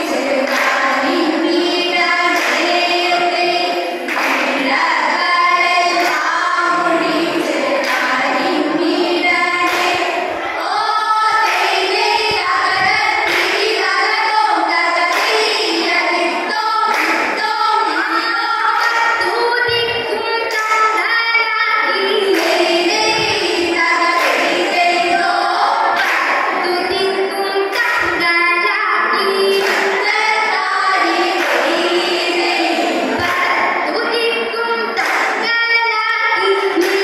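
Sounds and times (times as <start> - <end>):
women singing in chorus: 0.0 - 37.0.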